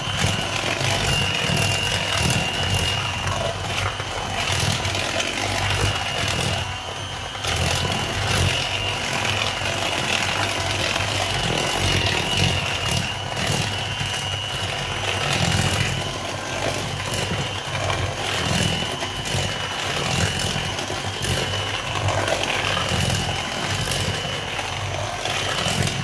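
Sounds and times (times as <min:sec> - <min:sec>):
electric hand mixer whining: 0:00.0 - 0:26.0
low churning of batter: 0:00.0 - 0:26.0.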